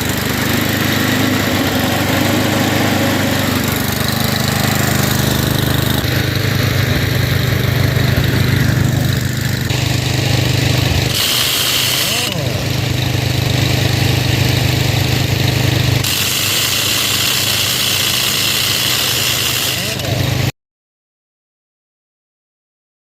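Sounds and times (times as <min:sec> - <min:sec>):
small gasoline engine running: 0:00.0 - 0:20.5.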